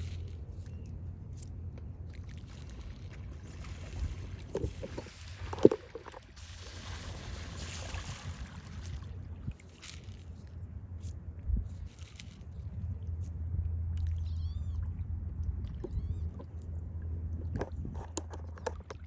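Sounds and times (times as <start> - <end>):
water splashing and sloshing: 0.0 - 13.1, 13.9 - 19.0
steady low hum: 0.0 - 19.0.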